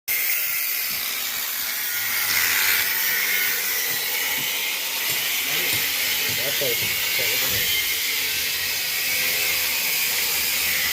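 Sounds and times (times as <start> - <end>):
welding arc sizzling hiss: 0.1 - 10.9.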